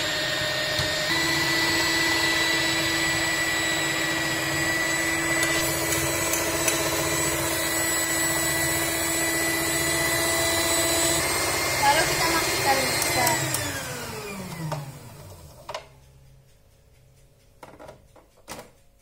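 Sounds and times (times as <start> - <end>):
stand mixer motor whirring: 0.0 - 16.0.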